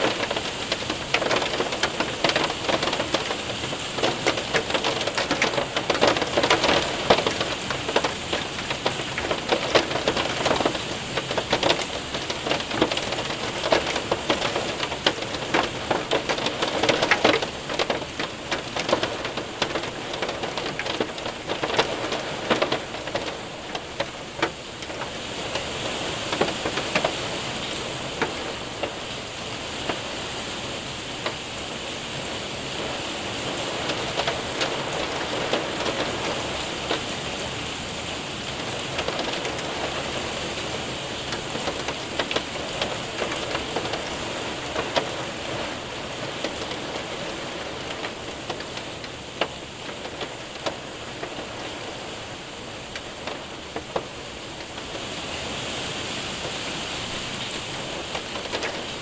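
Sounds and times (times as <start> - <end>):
heavy rain and hail on window: 0.0 - 59.0.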